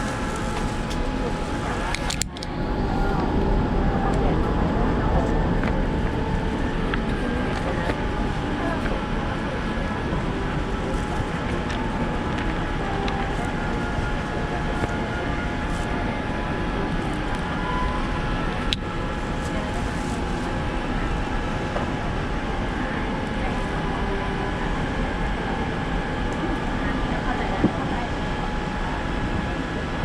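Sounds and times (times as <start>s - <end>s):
airliner cabin noise: 0.0s - 30.0s.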